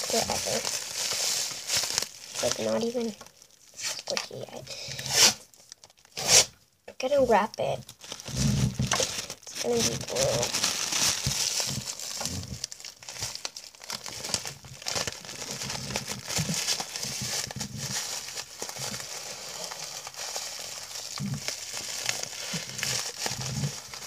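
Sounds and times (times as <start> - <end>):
plastic bag crinkling: 0.0 - 6.4, 7.8 - 24.0
tape being wrapped: 0.0 - 6.6, 7.9 - 24.0.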